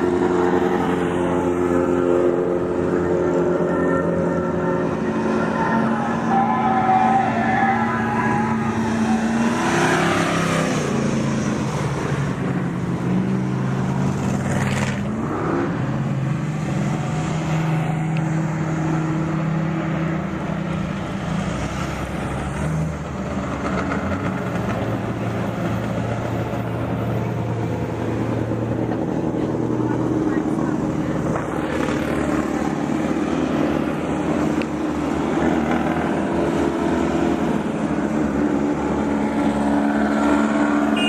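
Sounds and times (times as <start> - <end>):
off-road vehicle engines revving: 0.0 - 41.0.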